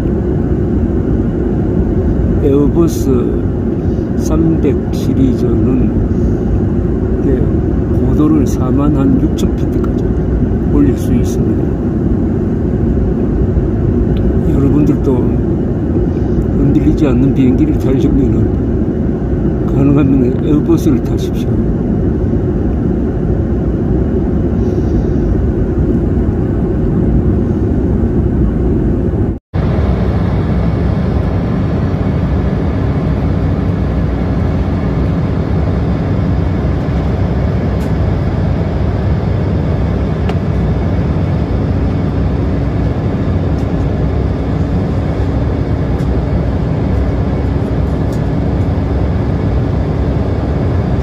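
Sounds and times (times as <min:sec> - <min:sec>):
faint hum: 0:00.0 - 0:51.0
jet airliner cabin noise: 0:00.0 - 0:51.0.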